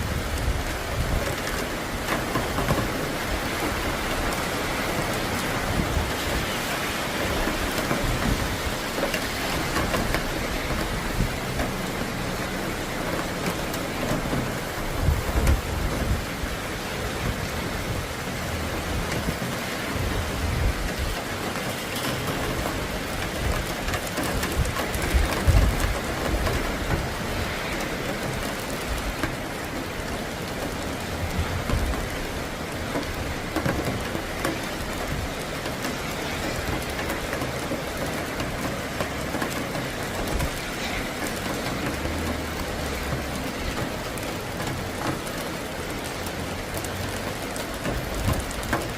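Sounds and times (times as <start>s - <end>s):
steady rain: 0.0s - 48.9s
thunder rumbling: 0.0s - 48.9s.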